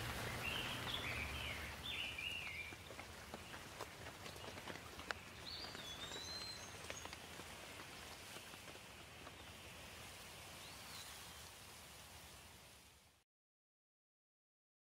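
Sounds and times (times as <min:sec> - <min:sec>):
light rain on leaves: 0:00.0 - 0:13.2.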